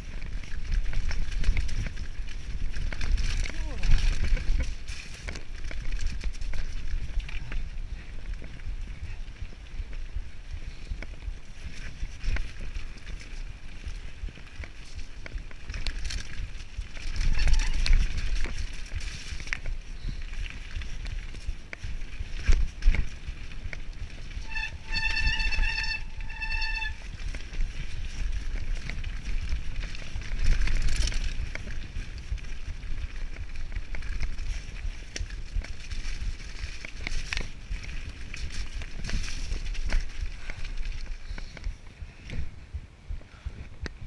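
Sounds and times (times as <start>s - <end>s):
tyres rolling over gravel: 0.0s - 41.6s
bike rattling over bumps: 0.0s - 44.0s
wind on microphone: 0.0s - 44.0s.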